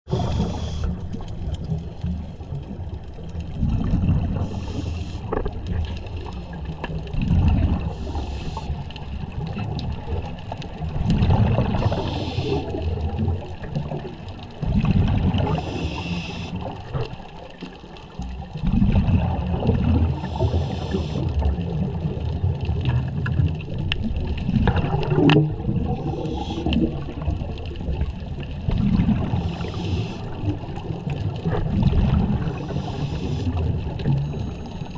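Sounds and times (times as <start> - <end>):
underwater exhaled bubbles: 0.1 - 34.9.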